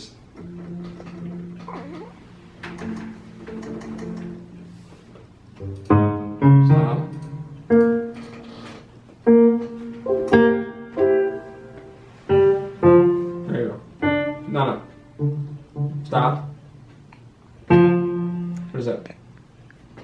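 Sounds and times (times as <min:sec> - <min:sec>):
slow piano notes: 0:00.0 - 0:19.4.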